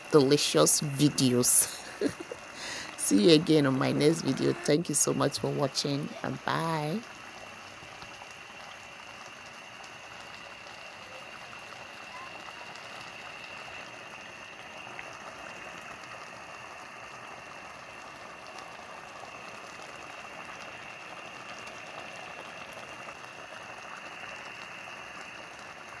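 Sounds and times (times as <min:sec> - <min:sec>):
porridge bubbling with small pops: 0:02.0 - 0:04.0, 0:04.9 - 0:26.0.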